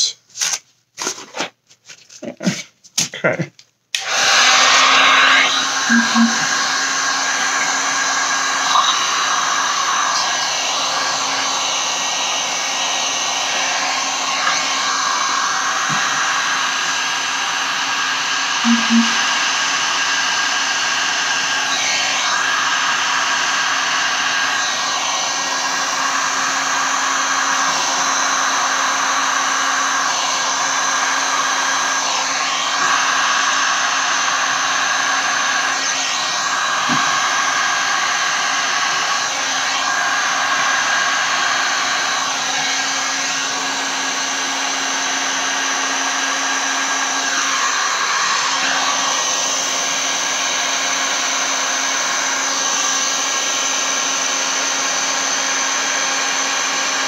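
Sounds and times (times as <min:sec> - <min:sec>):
heat gun blowing with whine: 0:04.0 - 0:57.0.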